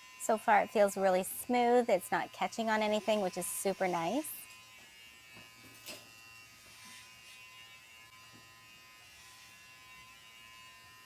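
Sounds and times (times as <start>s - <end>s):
hair clippers buzzing: 0.0s - 11.0s.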